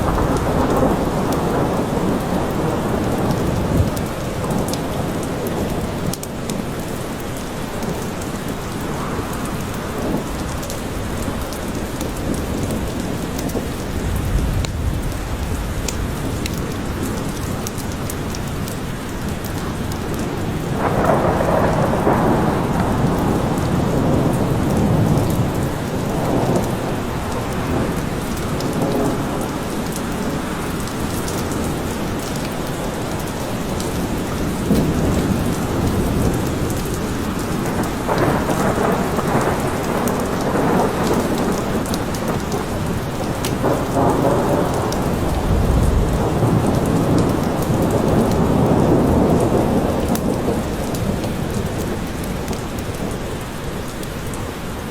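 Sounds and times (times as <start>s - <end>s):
low thunder rumbling: 0.0s - 6.1s, 8.8s - 18.6s, 19.6s - 53.0s
rain falling in forest: 0.0s - 54.9s.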